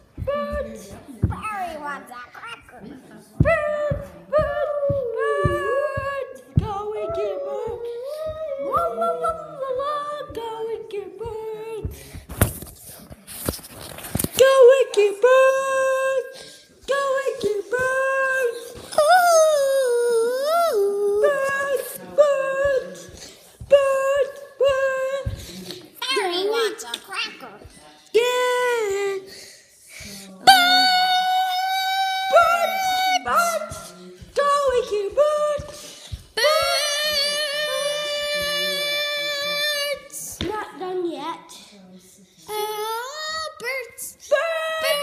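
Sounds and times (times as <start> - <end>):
child singing: 0.0 - 2.7, 3.4 - 12.0, 14.4 - 27.4, 30.4 - 41.5, 42.5 - 45.0.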